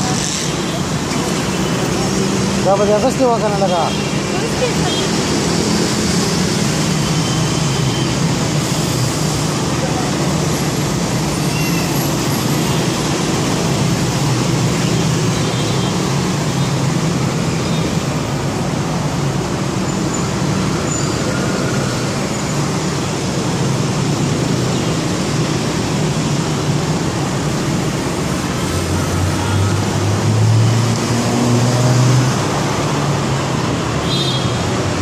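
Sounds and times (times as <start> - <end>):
city road traffic hum: 0.0 - 35.0.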